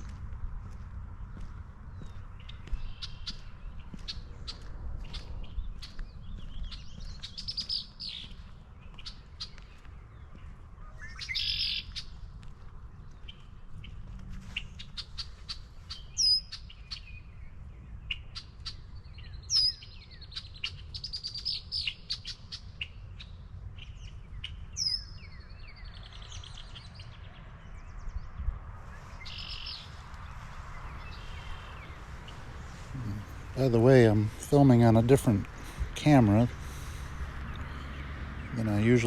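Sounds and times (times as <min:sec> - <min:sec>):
songbirds singing and chirping: 0:00.0 - 0:39.0.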